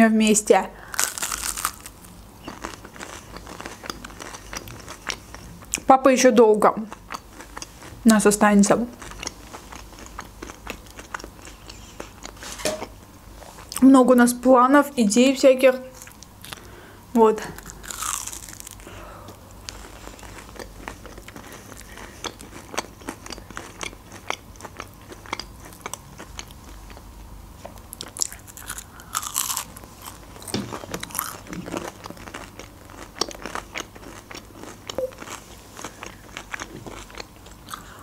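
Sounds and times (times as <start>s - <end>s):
person chewing crunchy fried food: 0.8s - 5.9s, 6.9s - 8.0s, 9.0s - 13.8s, 16.0s - 16.8s, 17.6s - 27.1s, 27.8s - 38.0s.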